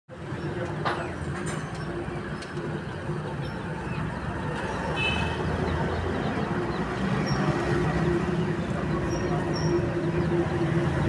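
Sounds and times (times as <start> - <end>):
baby chicks cheeping: 0.1 - 11.0
busy market din: 0.1 - 11.0.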